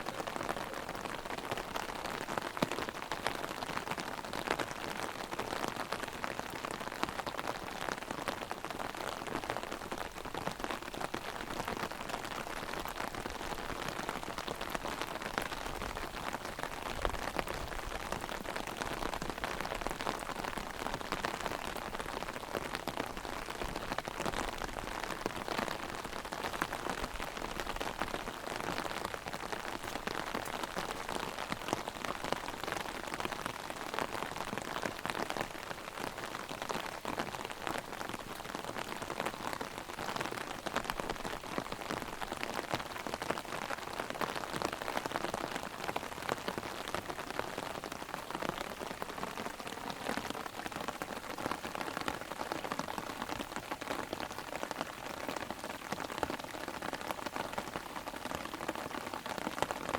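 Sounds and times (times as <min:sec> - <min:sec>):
heavy rain on umbrella: 0:00.0 - 0:59.9.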